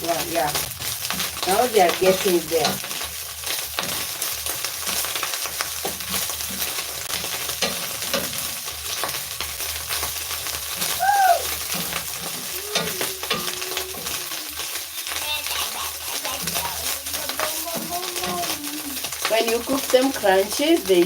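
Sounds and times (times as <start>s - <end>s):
fish sizzling in a pan: 0.0s - 21.0s
utensil scraping a pan: 0.6s - 21.0s.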